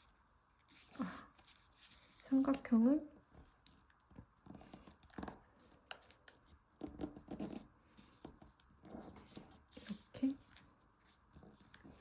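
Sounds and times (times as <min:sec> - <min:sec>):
paper rustling and scratching: 0:00.0 - 0:12.0.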